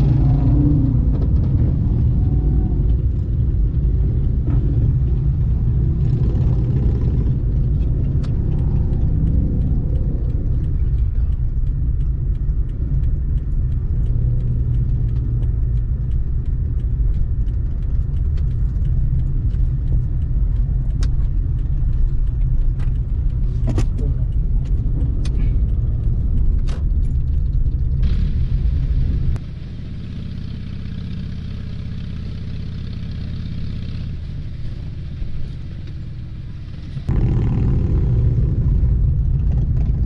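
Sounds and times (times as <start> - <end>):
motorcycles rumbling: 0.0 - 40.0.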